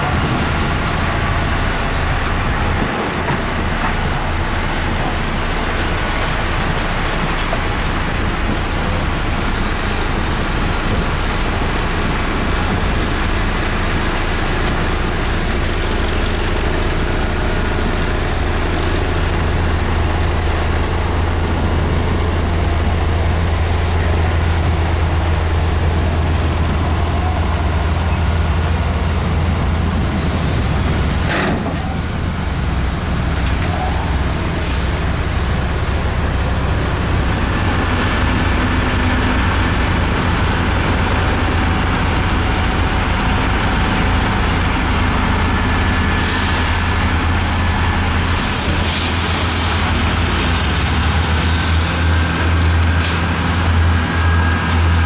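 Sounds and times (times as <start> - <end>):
bulldozer diesel engine rumbling: 0.0 - 55.0.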